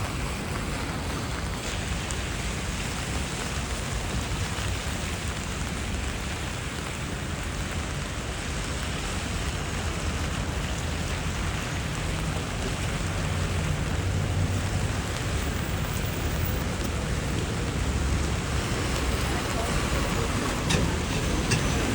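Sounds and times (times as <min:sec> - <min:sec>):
low rumble of passing traffic: 0:00.0 - 0:21.9
rain hiss on street: 0:00.0 - 0:21.9.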